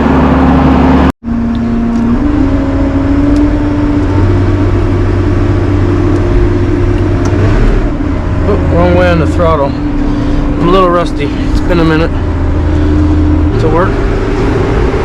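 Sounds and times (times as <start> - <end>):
heavy farm machine engine: 0.0 - 15.0.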